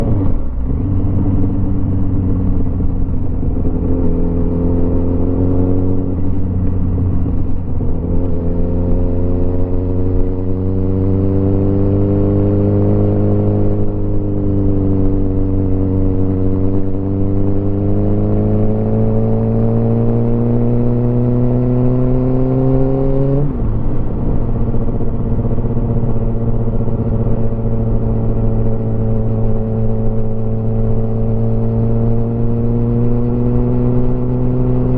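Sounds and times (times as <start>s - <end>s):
motorcycle engine running: 0.0s - 21.0s, 23.5s - 34.9s
wind and road noise: 0.0s - 34.9s.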